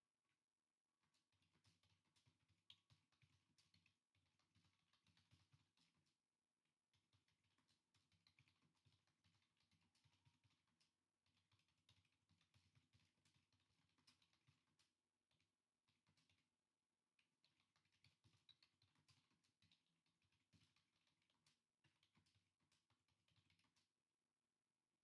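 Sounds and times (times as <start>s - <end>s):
faint keyboard typing: 0.0s - 25.0s.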